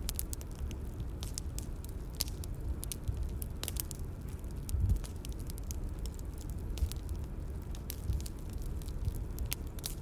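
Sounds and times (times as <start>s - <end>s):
bonfire crackling: 0.0s - 10.0s.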